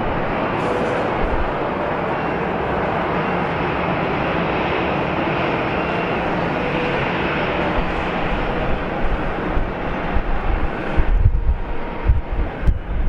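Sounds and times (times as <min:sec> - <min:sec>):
jet aircraft noise: 0:00.0 - 0:13.0
wind buffeting microphone: 0:00.0 - 0:13.0.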